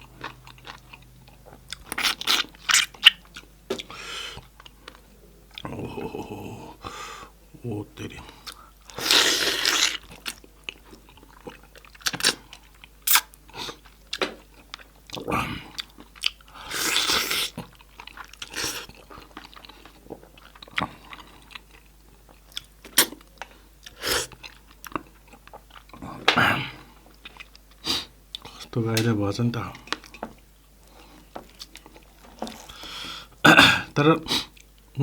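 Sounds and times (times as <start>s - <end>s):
chewing and crunching meat: 0.0s - 6.4s, 8.3s - 26.2s, 26.9s - 27.8s, 29.7s - 33.3s.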